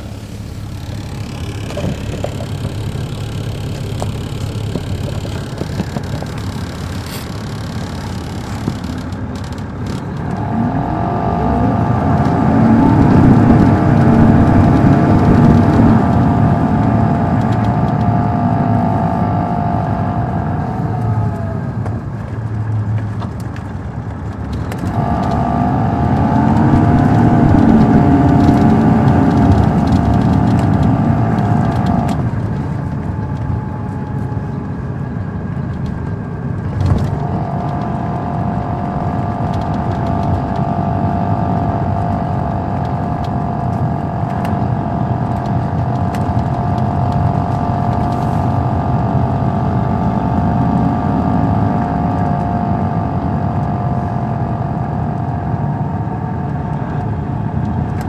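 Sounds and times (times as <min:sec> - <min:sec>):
diesel bus engine rumble: 0:00.0 - 0:58.0
steady engine whine: 0:00.0 - 0:58.0.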